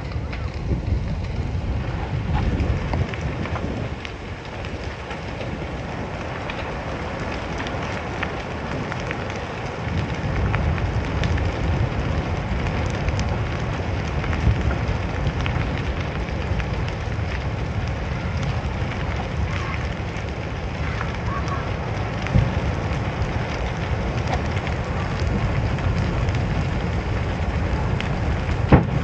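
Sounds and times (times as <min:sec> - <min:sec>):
fire crackling and popping: 0:00.0 - 0:29.0
fire rushing: 0:00.0 - 0:29.0.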